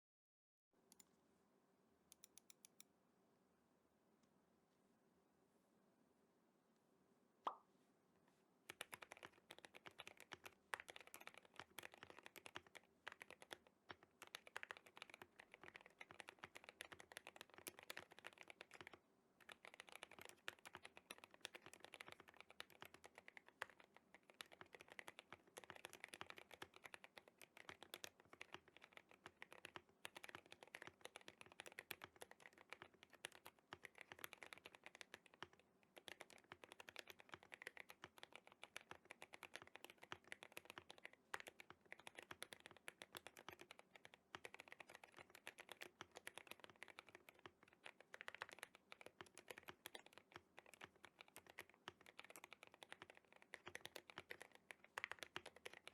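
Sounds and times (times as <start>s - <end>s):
fast mechanical keyboard typing: 8.7s - 55.9s.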